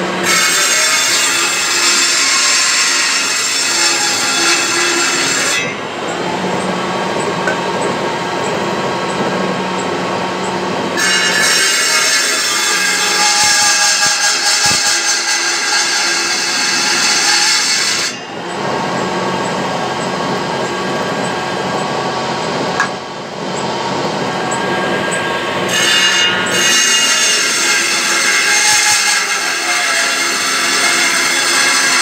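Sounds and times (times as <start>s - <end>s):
table saw cutting wood: 0.0s - 32.0s.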